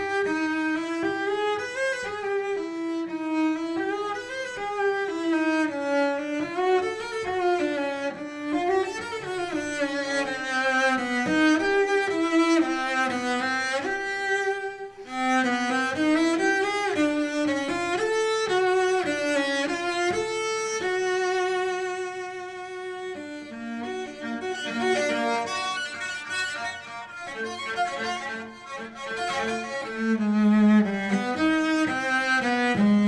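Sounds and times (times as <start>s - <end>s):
cello playing slow melody: 0.0s - 33.0s.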